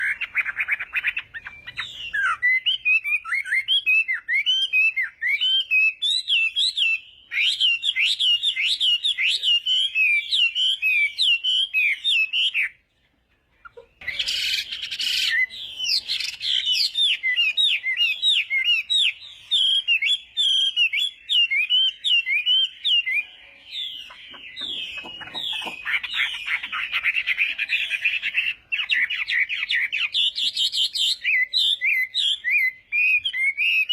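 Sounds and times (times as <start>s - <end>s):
songbird singing whistled phrases: 0.0s - 12.8s, 13.6s - 33.9s.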